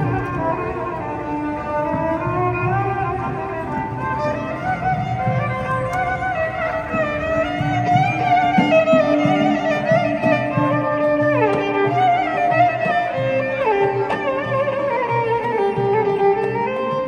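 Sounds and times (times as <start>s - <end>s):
frame drum: 0.0s - 17.0s
lute: 0.0s - 17.0s
violins playing melody: 0.0s - 17.0s.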